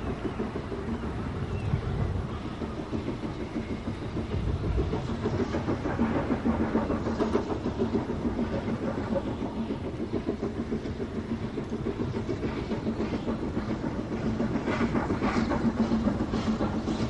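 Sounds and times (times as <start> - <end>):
rail clatter: 0.0 - 17.0
steam locomotive beats: 0.0 - 17.0.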